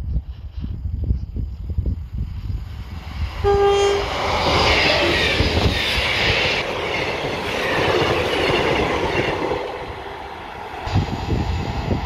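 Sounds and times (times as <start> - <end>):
train wheels on rails: 0.0 - 12.0
diesel train engines running: 0.1 - 12.0.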